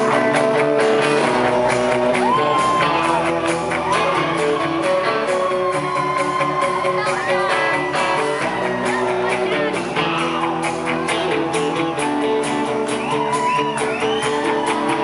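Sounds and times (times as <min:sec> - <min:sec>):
crowd shouting and whooping: 0:00.0 - 0:15.0
electric guitars: 0:00.0 - 0:15.0
live rock band playing: 0:00.0 - 0:15.0.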